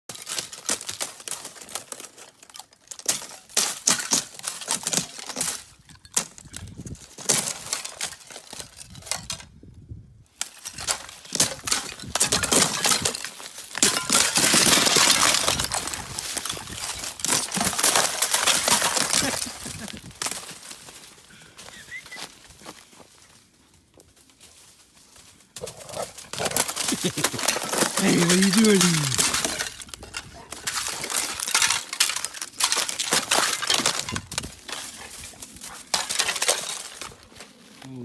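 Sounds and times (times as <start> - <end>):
ice cracking and breaking: 0.1 - 9.4, 10.4 - 20.8, 25.7 - 37.4.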